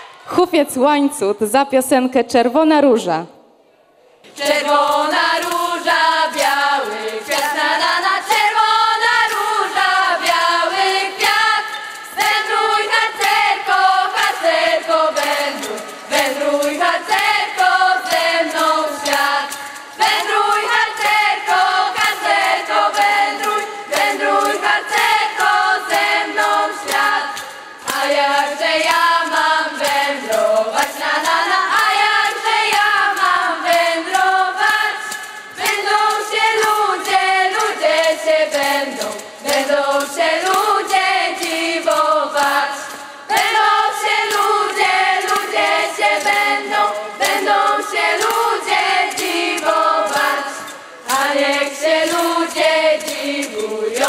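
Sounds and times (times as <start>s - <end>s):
rhythmic accompaniment: 3.5s - 54.0s
young female voices singing: 4.3s - 54.0s.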